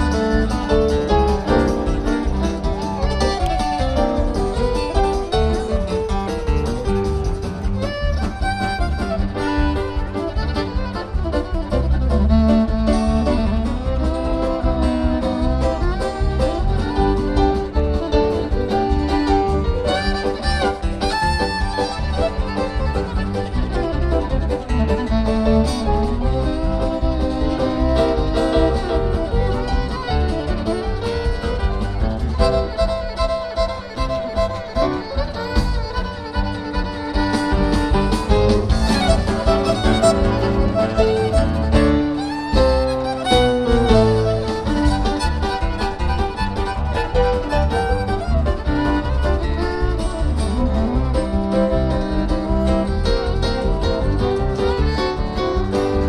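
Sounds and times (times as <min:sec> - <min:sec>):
fiddle and guitar string-band music: 0:00.0 - 0:56.0.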